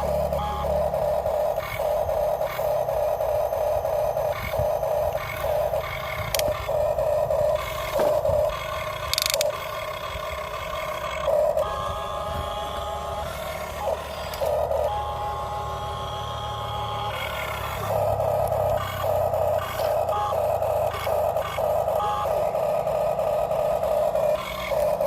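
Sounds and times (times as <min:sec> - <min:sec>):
toy excavator motors whining: 0:00.0 - 0:25.0.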